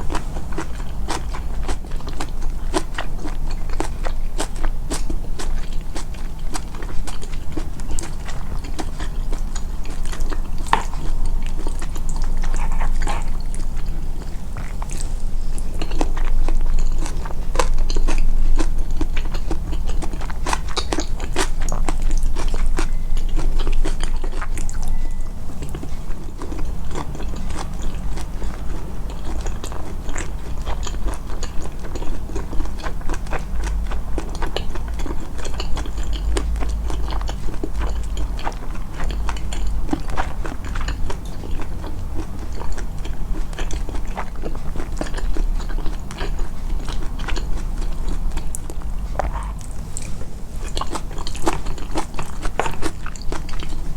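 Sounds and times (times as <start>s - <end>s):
chewing and biting food: 0.0s - 53.9s
steady low hum: 0.0s - 53.9s.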